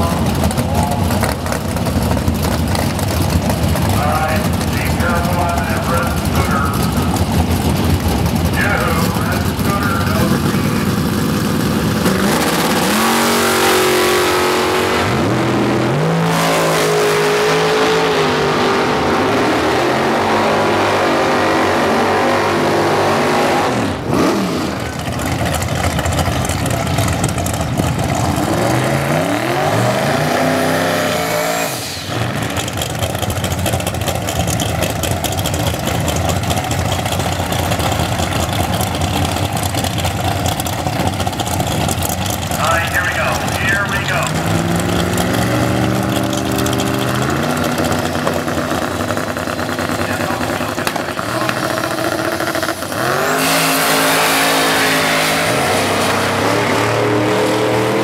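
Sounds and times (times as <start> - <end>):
engines revving hard: 0.0 - 58.0.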